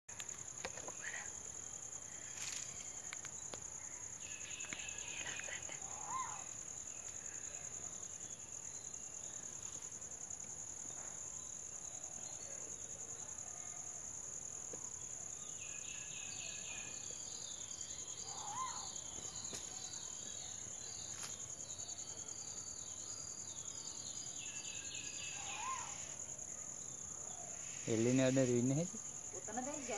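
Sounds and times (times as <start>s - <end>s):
insects droning: 0.1s - 29.9s.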